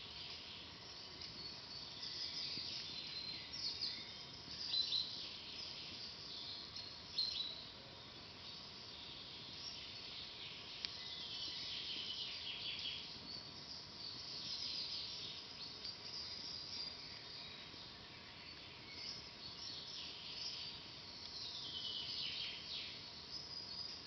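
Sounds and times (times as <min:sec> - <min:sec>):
faint hiss: 0:00.0 - 0:24.0
small birds chirping: 0:00.0 - 0:24.0.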